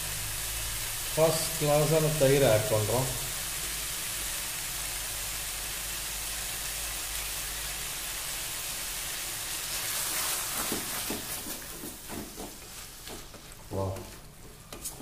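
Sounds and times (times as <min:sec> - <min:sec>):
vegetables sizzling in frying pan: 0:00.0 - 0:13.4.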